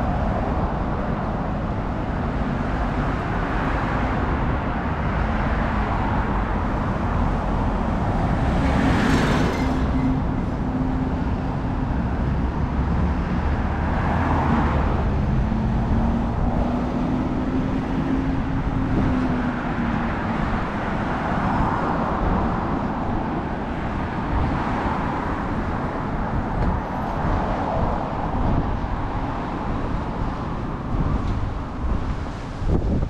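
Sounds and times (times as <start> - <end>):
road traffic: 0.0 - 33.0.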